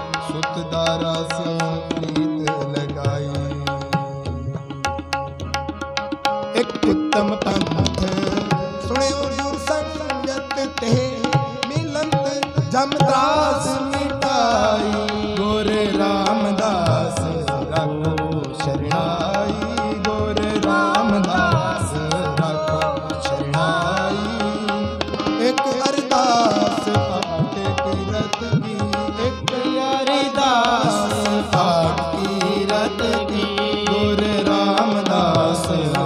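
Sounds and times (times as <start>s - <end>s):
man singing: 0.0s - 5.6s, 6.3s - 36.0s
harmoniums playing: 0.0s - 36.0s
tabla strokes: 0.0s - 36.0s.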